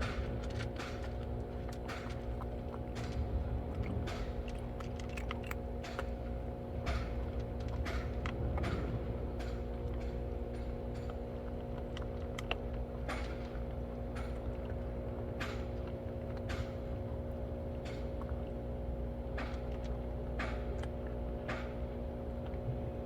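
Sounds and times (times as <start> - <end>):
cats crunching dry food: 0.0 - 22.6
steady low hum: 0.0 - 23.0.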